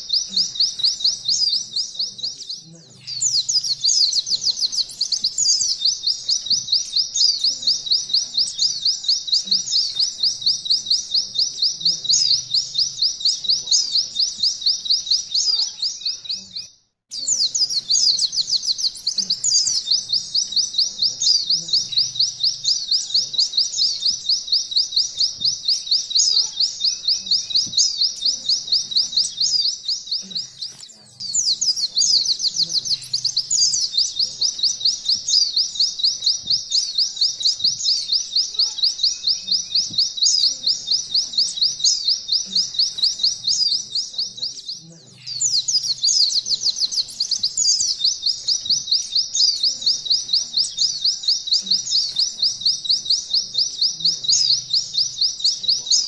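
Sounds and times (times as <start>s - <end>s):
bird singing fast trill: 0.0s - 56.0s.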